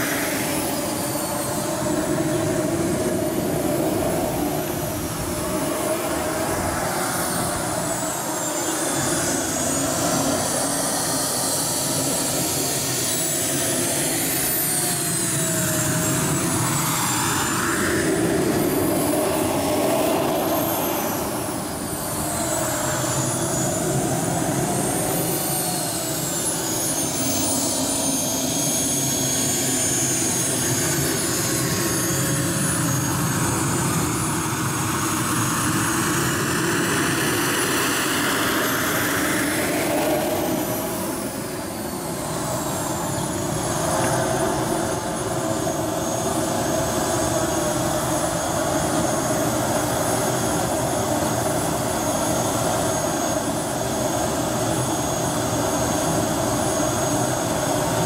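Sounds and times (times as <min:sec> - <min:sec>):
model jet turbine whine: 0:00.0 - 0:58.0.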